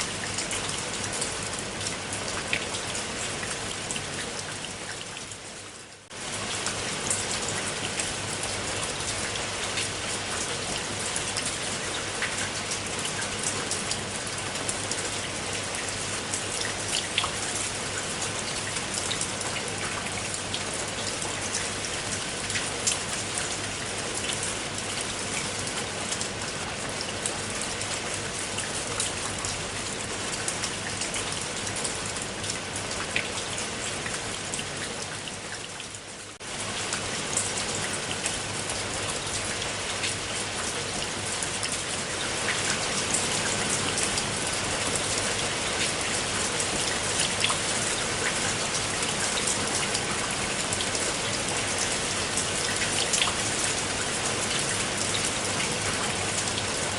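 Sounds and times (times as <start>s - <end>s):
rain drops pattering: 0.0s - 56.9s.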